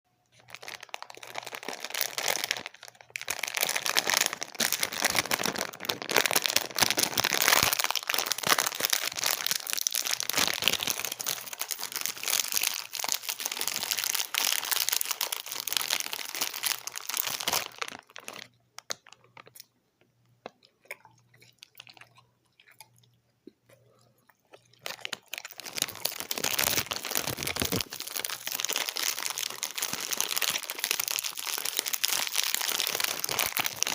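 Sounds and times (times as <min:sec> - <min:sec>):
chewing gummy candies: 0:00.3 - 0:33.9.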